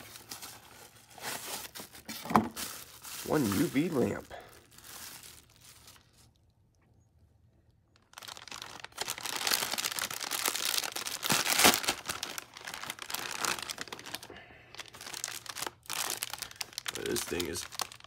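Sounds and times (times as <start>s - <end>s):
plastic packaging crinkling: 0.0s - 6.5s, 7.9s - 18.0s.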